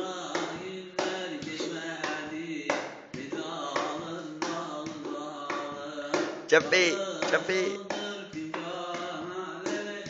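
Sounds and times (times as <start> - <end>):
man singing: 0.0 - 10.0
hands slapping plastic stool: 0.2 - 10.0.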